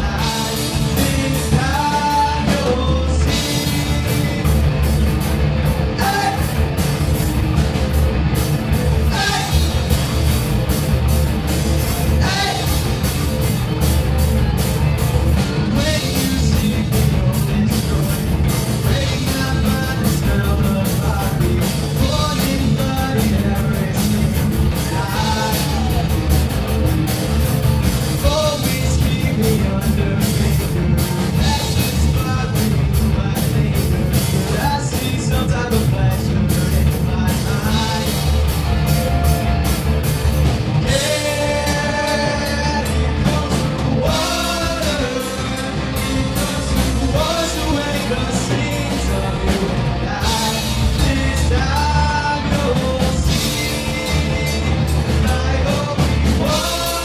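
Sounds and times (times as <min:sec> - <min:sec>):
person singing: 0:00.0 - 0:04.9, 0:05.9 - 0:06.8, 0:09.0 - 0:10.0, 0:12.1 - 0:13.1, 0:15.6 - 0:26.3, 0:28.2 - 0:39.7, 0:40.8 - 0:57.0
drum kit: 0:00.0 - 0:57.0
electric guitars: 0:00.0 - 0:57.0.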